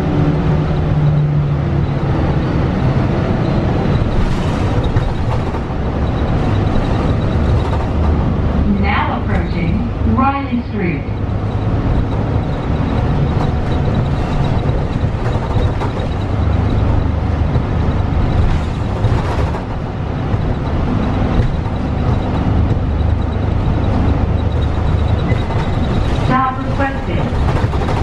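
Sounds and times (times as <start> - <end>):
bus engine low rumble: 0.0 - 28.0
road noise: 0.0 - 28.0.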